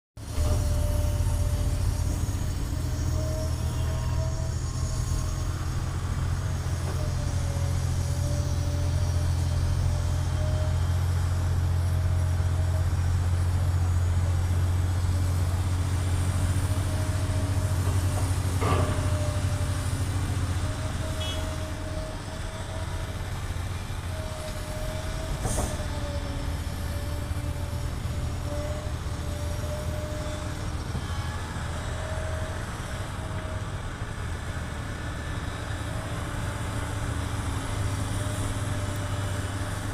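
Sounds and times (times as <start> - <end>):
excavator diesel engine hum: 0.2 - 39.9.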